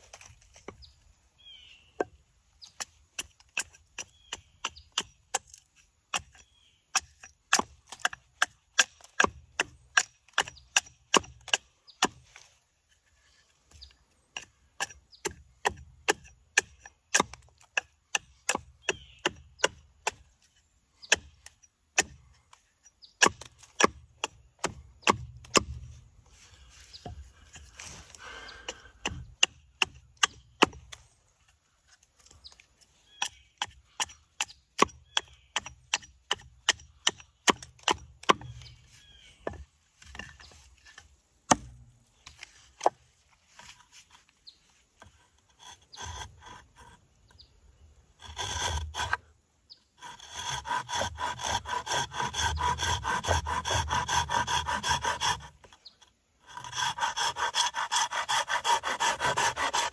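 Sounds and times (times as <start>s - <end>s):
scraping strokes on wood: 2.0s - 47.4s, 48.2s - 59.9s.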